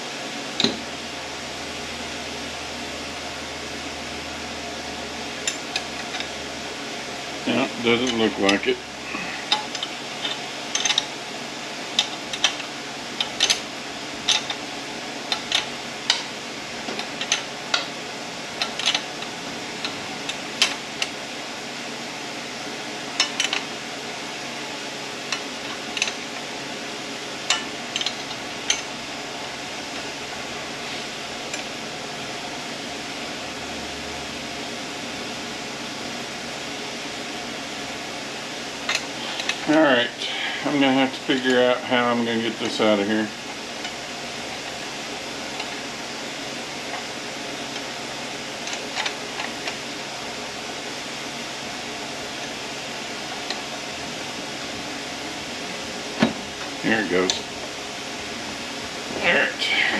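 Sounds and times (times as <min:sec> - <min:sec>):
steady fan hum: 0:00.0 - 0:59.9.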